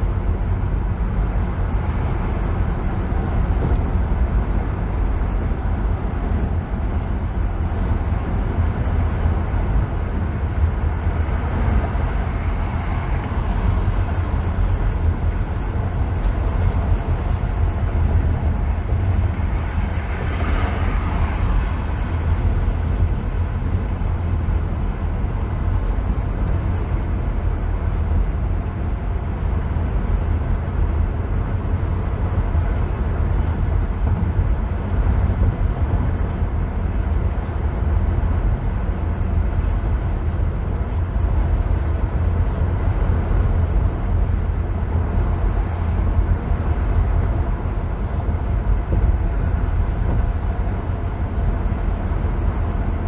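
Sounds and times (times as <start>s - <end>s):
car tyre and road noise: 0.0s - 53.0s.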